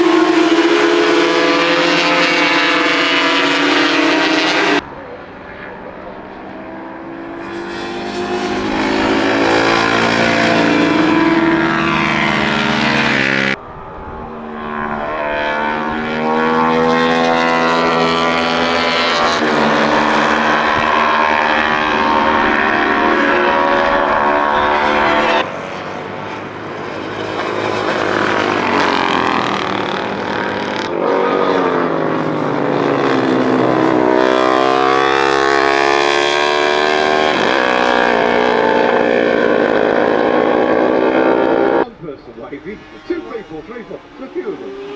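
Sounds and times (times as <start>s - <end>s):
racing motorcycles at high revs: 0.0s - 44.9s.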